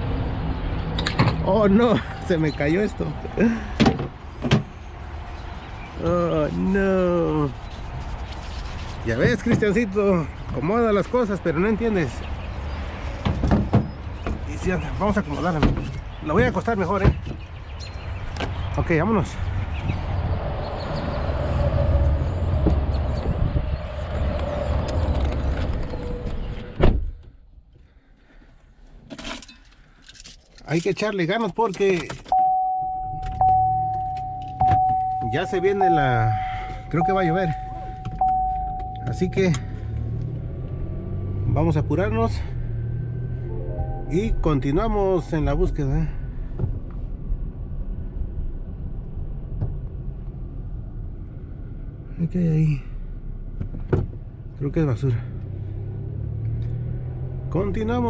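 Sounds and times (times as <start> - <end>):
car engine and tyres rumble: 0.0 - 43.5, 44.2 - 58.0.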